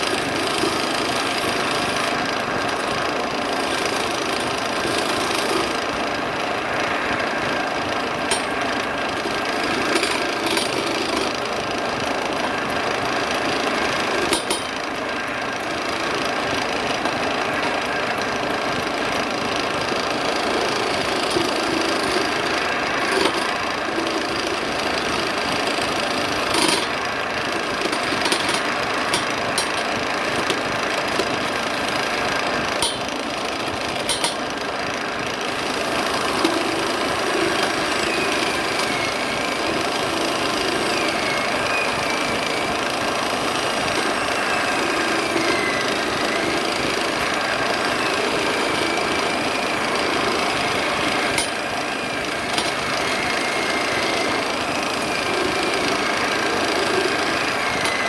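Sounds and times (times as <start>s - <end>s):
wood lathe clattering: 0.0s - 58.0s.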